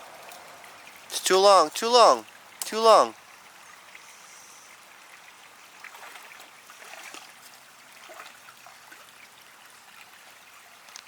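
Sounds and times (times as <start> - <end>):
water trickling and babbling: 0.0 - 11.0.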